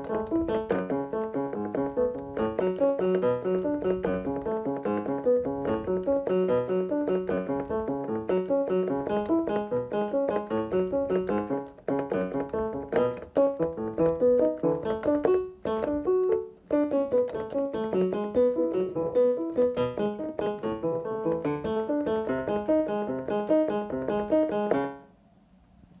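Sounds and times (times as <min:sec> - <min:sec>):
piano music: 0:00.0 - 0:25.1.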